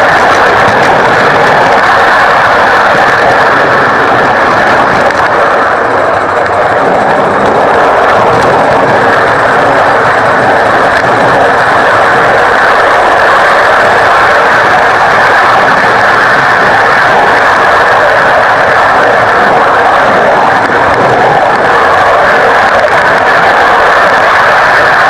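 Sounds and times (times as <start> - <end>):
miniature steam train rushing: 0.0 - 25.0.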